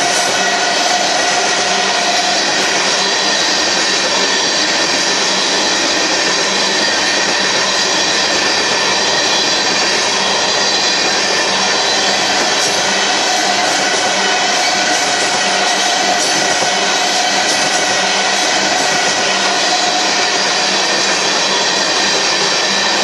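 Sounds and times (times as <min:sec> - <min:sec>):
high whining tones: 0:00.0 - 0:23.0
train wheels rushing on rail: 0:00.0 - 0:23.0.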